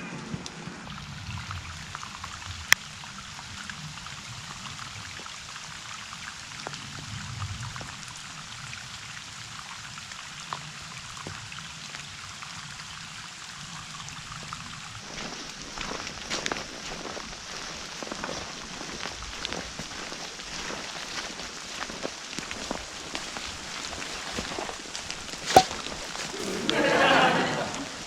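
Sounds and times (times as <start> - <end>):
steady rain: 0.0 - 25.2.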